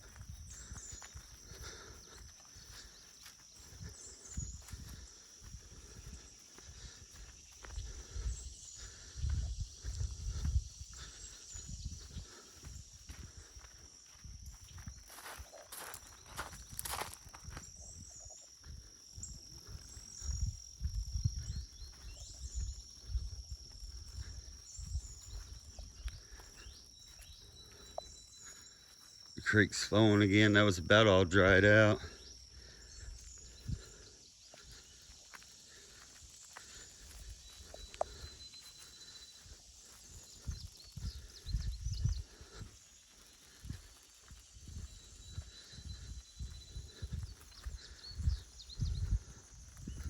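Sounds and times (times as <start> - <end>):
footsteps outdoors: 0.0 - 50.0
insect chirps: 0.0 - 50.0
insect drone: 0.0 - 50.0.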